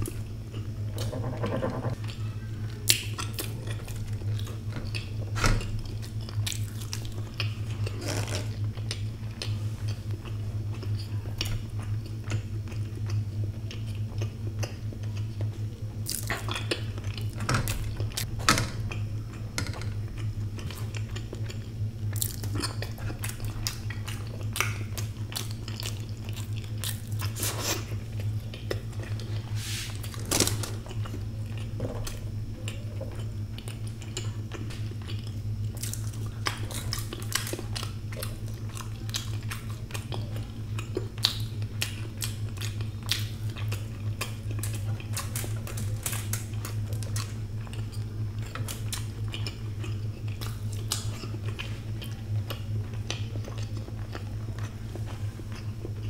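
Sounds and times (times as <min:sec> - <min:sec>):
chewing and biting eggs: 0:00.0 - 0:56.0
steady low hum: 0:00.0 - 0:56.0.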